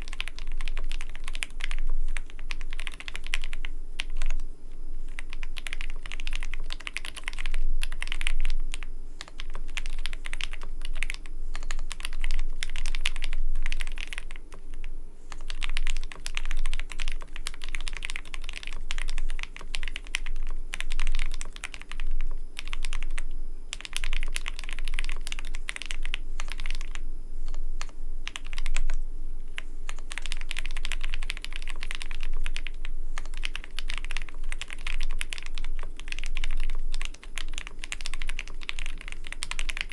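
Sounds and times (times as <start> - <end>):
fast typing on mechanical keyboard: 0.0 - 4.4, 5.1 - 39.9.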